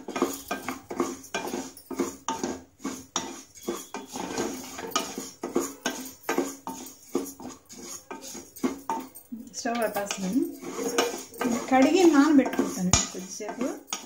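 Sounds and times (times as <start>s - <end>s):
spatula scraping rice in pan: 0.0s - 14.0s.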